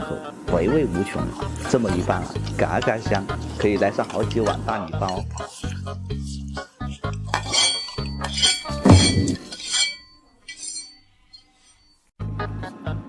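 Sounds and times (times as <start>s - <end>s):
utensils clinking against a bowl: 1.0s - 12.0s.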